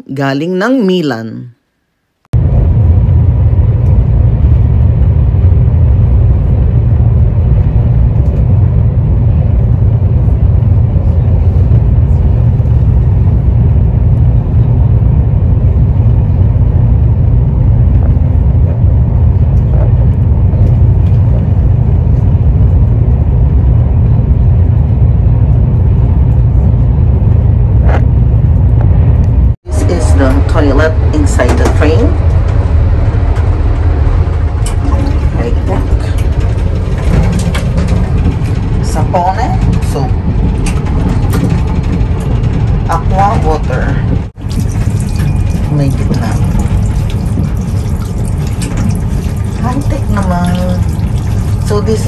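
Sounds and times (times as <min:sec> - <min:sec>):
train rumbling inside cabin: 0:02.4 - 0:52.0.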